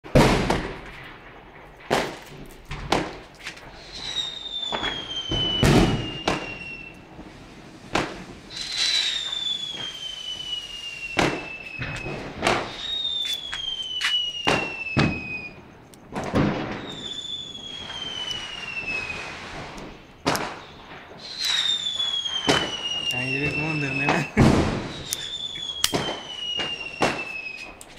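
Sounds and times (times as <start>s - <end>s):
firecracker bangs: 0.0s - 1.3s, 1.9s - 27.8s
firework whistles falling in pitch: 3.6s - 27.9s.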